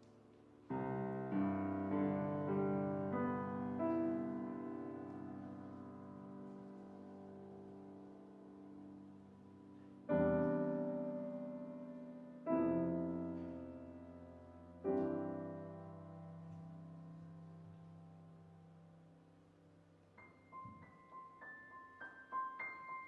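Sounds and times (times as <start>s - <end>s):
piano chords ringing: 0.0s - 23.0s.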